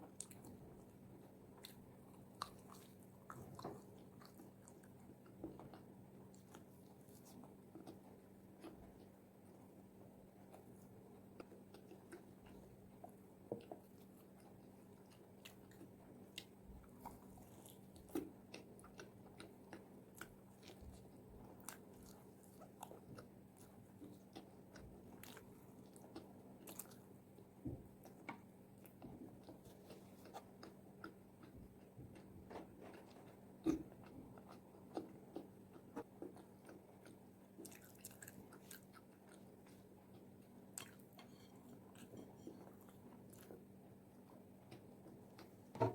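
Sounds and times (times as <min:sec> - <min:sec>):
chewing crispy fried chicken: 0:00.0 - 0:45.8.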